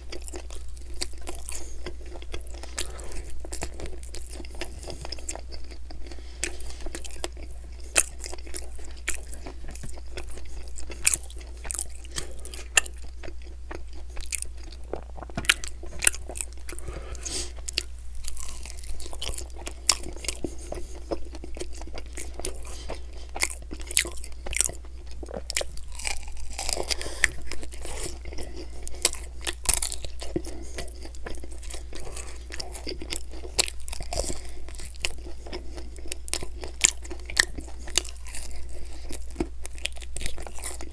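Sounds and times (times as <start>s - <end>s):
biting and chewing chicken wings: 0.0s - 40.9s
steady low hum: 0.0s - 40.9s.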